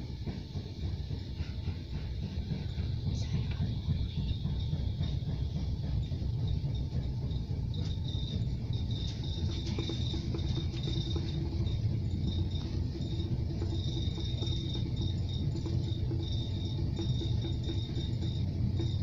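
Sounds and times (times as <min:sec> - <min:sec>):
train cabin rumble: 0:00.0 - 0:19.0.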